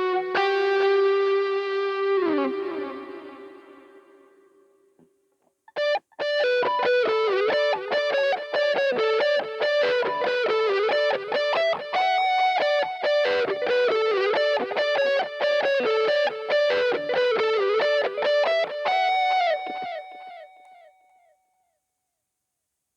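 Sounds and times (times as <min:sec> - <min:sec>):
distorted electric guitar notes: 0:00.0 - 0:04.7, 0:05.7 - 0:20.3.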